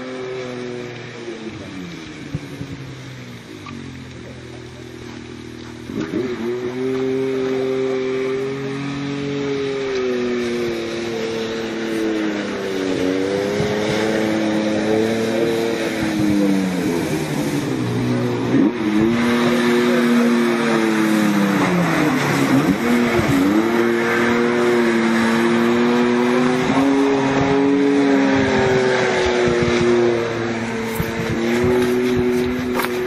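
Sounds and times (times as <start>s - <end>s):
snowmobile engine running hard: 0.0s - 33.0s.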